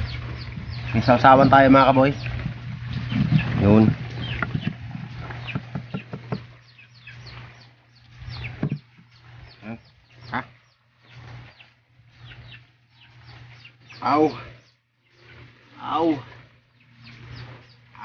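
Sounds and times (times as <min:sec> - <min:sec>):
chickens clucking: 0:00.0 - 0:18.0
low hum: 0:00.0 - 0:18.0.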